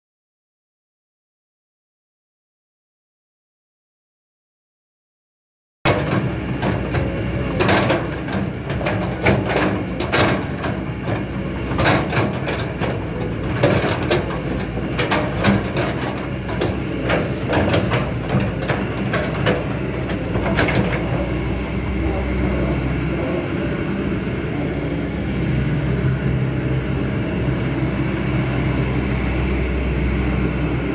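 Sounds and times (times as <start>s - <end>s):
excavator diesel engine: 5.9s - 30.9s.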